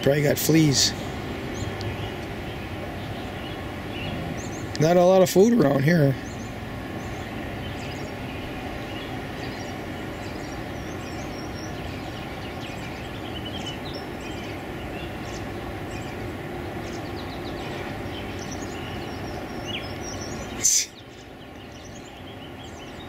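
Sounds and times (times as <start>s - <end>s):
city noise rumble: 0.0s - 23.0s
low hum: 0.0s - 23.0s
bird chirps: 0.6s - 23.0s.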